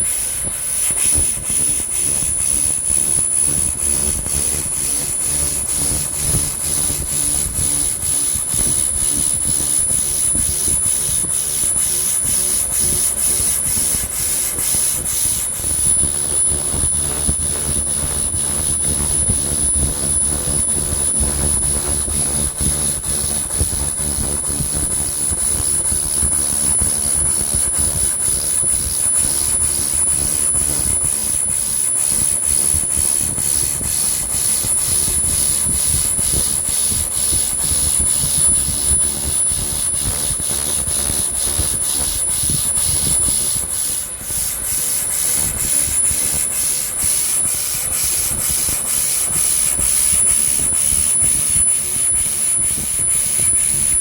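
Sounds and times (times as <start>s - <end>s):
laser high-pitched whine: 0.0s - 54.0s.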